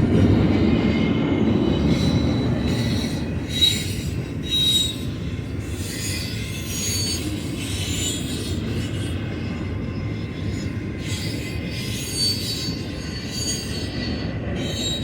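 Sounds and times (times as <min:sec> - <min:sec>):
freight train rumbling past: 0:00.0 - 0:15.0
wheels squealing: 0:00.9 - 0:15.0.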